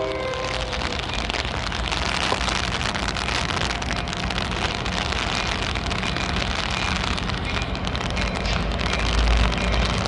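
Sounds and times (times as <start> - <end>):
train wheels on track: 0.0 - 10.0.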